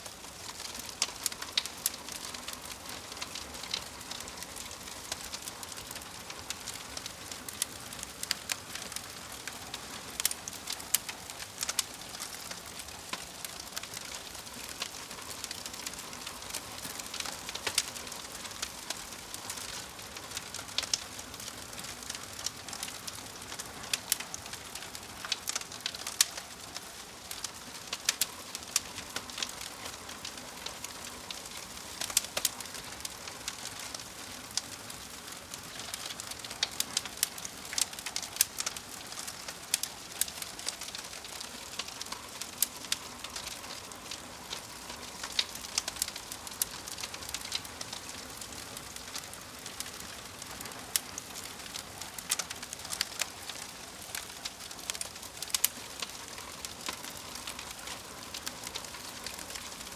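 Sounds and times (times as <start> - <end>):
fire hissing softly: 0.0 - 59.9
wood fire crackling and popping: 0.0 - 59.9.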